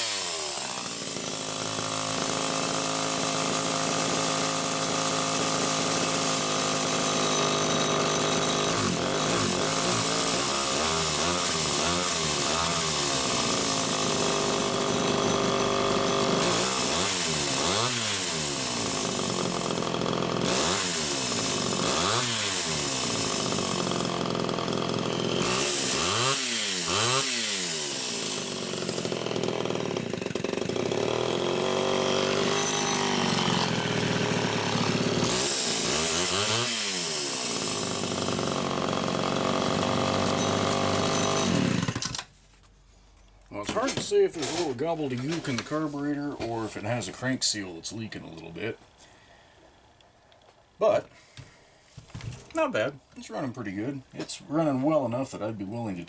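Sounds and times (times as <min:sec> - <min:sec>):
chainsaw revving: 0:00.0 - 0:42.3, 0:43.7 - 0:49.2, 0:53.8 - 0:56.0.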